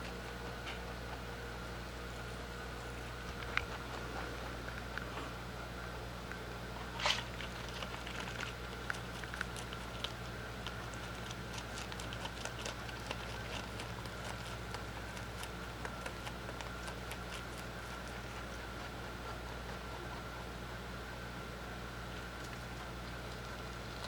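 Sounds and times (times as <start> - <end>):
rabbit chewing vegetables: 0.0 - 24.0.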